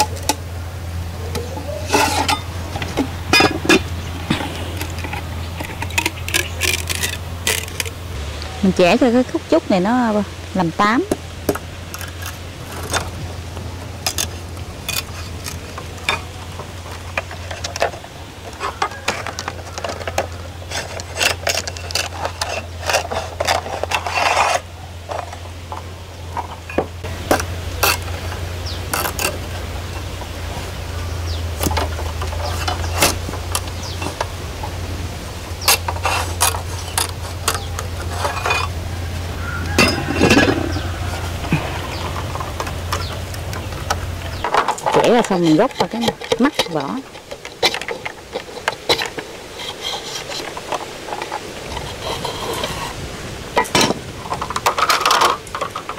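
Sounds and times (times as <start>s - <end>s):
low hum: 0.0s - 55.9s.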